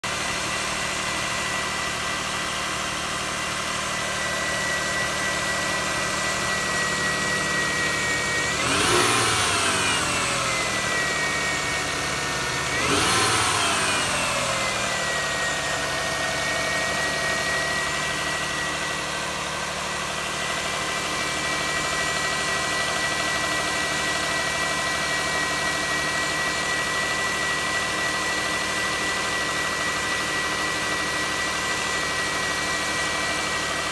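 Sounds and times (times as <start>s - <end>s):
car engine idling and revving: 0.0s - 33.9s
high-pitched engine whine: 0.1s - 33.9s.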